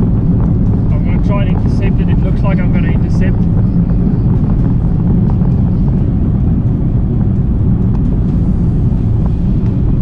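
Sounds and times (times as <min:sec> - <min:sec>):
car engine: 0:00.0 - 0:10.0
wind noise: 0:00.0 - 0:10.0.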